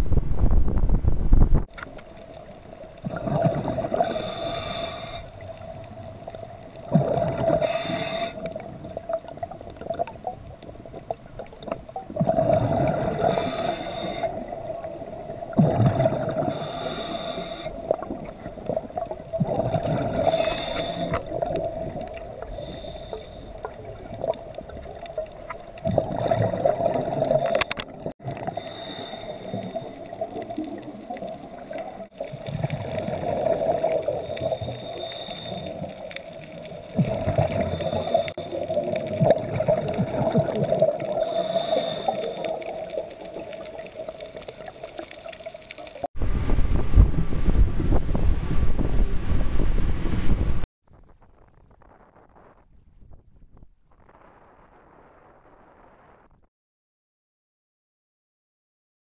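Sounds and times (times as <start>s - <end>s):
regulator bubbling and gurgling: 0.4s - 49.6s.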